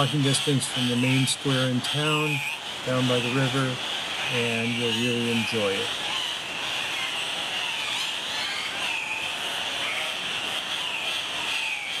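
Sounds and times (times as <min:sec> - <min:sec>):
high-pitched bird chorus: 0:00.0 - 0:12.0
short bird calls: 0:00.0 - 0:12.0.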